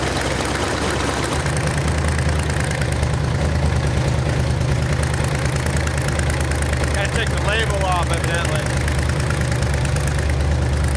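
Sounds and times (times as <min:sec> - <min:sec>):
engine running: 0:00.0 - 0:10.9
exhaust leaking: 0:00.0 - 0:10.9.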